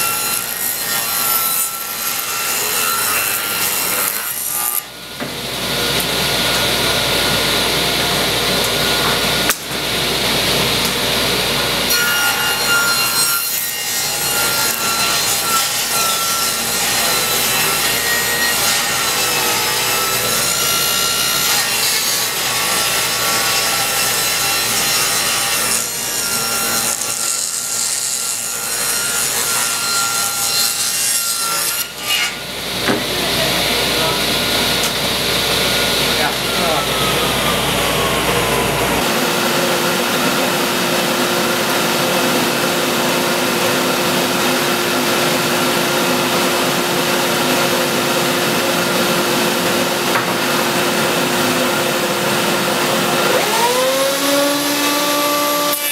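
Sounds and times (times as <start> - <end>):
table saw cutting wood: 0.0 - 55.9.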